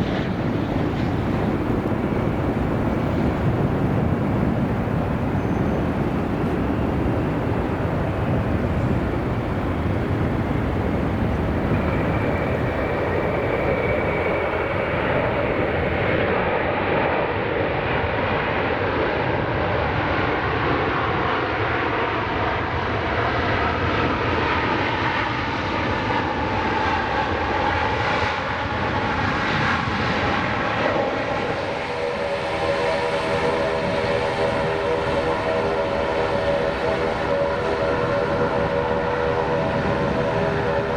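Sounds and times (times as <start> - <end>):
jet engines roaring: 0.0 - 40.9.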